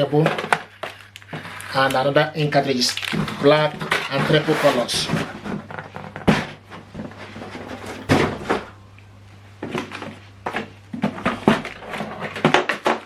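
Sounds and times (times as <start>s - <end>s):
faint low hum: 2.0s - 13.0s.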